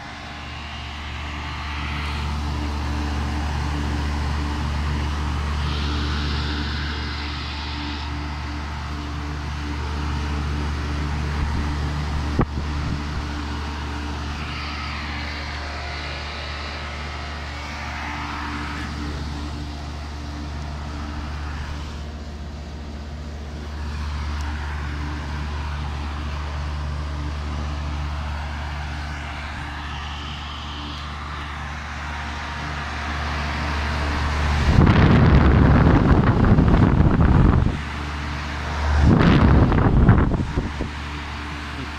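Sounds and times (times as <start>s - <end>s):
air conditioner electric hum: 0.0s - 41.9s
fan air rushing on microphone: 0.0s - 41.9s.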